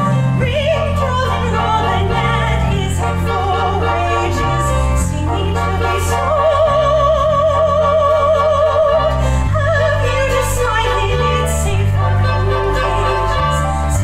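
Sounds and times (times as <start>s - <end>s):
instrumental accompaniment: 0.0s - 14.0s
woman singing operatically: 0.0s - 14.0s.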